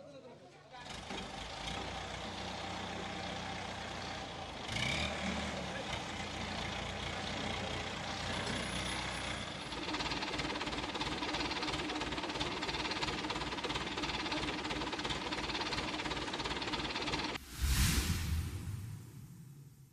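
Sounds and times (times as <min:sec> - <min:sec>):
diesel engine running: 0:00.9 - 0:17.4.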